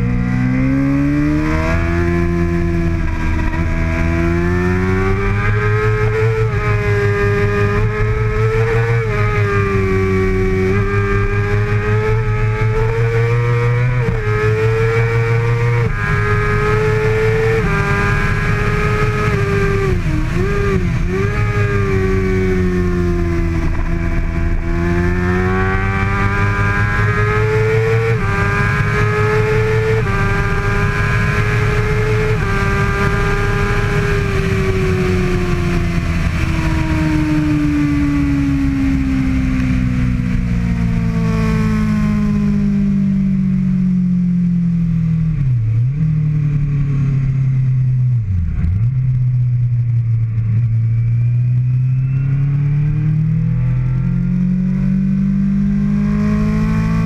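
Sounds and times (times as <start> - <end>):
motorcycle engine revving: 0.0 - 57.0
wind and road rumble: 0.0 - 57.0.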